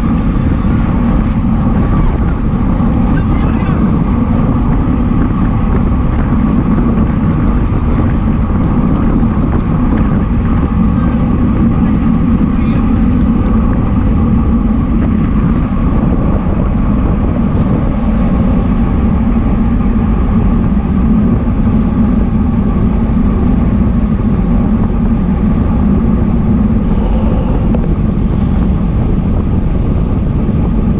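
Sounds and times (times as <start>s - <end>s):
bike tyres on asphalt: 0.0s - 30.9s
wind buffeting microphone: 0.0s - 30.9s.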